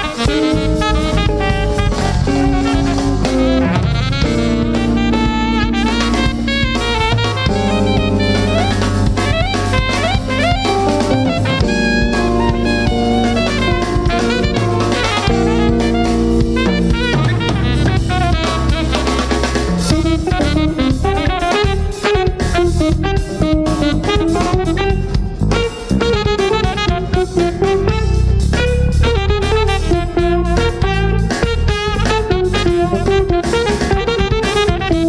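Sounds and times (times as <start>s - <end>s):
alto saxophone: 0.0s - 35.0s
drum kit: 0.0s - 35.0s
electric bass: 0.0s - 35.0s.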